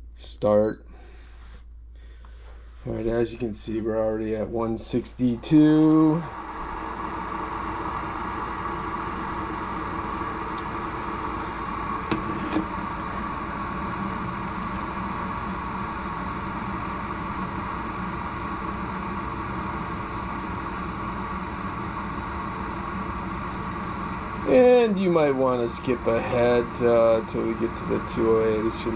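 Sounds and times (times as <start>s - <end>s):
kettle heating water hum and hiss: 0.2s - 28.9s.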